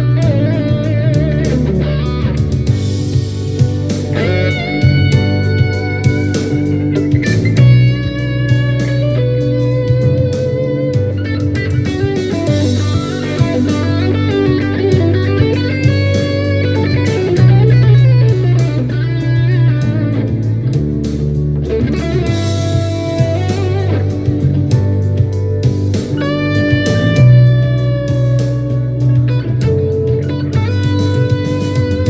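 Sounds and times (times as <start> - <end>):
backing track bass notes: 0.0 - 32.0
electric guitar lead solo: 0.0 - 32.0.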